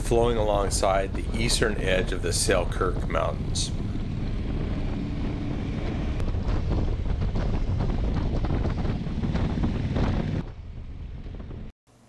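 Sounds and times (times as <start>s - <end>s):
motorcycle engine and tyres rumbling: 0.0s - 11.7s
wind buffeting microphone: 0.0s - 11.7s.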